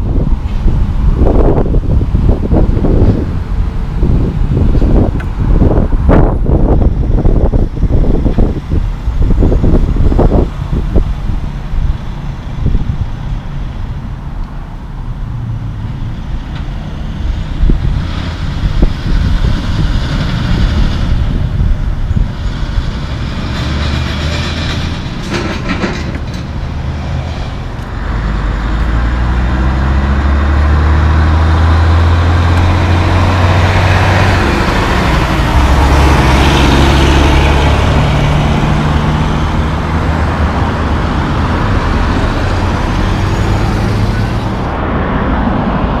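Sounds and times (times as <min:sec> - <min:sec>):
truck engine rumble: 0:00.0 - 0:46.0
trucks passing on highway: 0:00.0 - 0:46.0.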